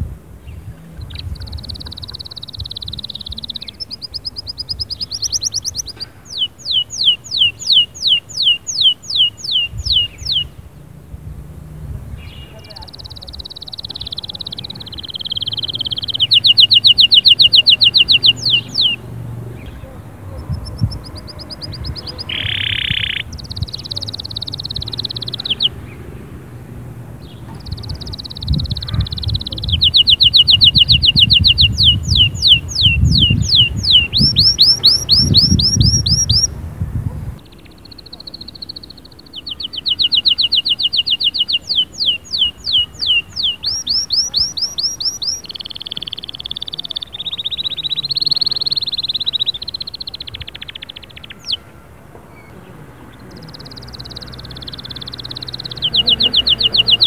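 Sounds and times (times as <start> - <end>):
canary singing fast trills: 0.4 - 57.0.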